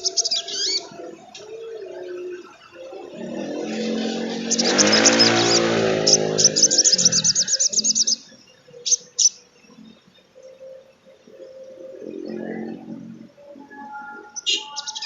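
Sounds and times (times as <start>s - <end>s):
bird twittering trill: 0.0s - 15.0s.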